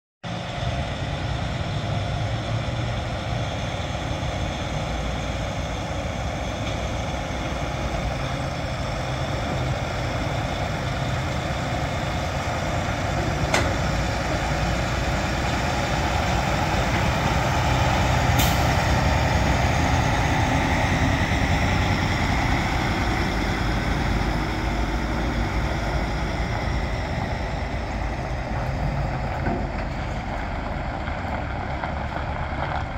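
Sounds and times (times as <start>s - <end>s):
diesel truck engine running: 0.2s - 32.9s.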